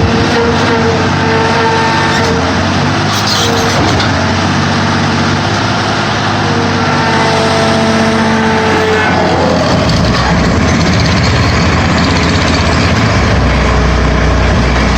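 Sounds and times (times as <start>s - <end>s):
baler engine and hydraulics droning: 0.0s - 14.9s.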